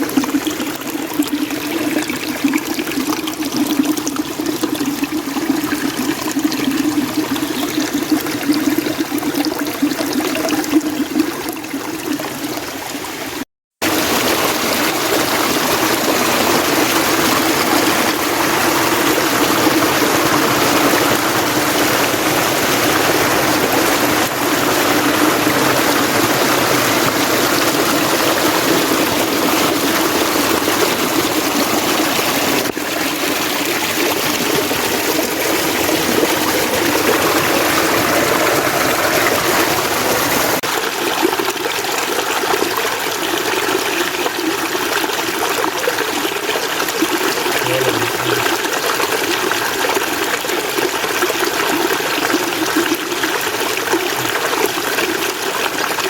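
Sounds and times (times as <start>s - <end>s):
mountain stream water: 0.0s - 56.0s.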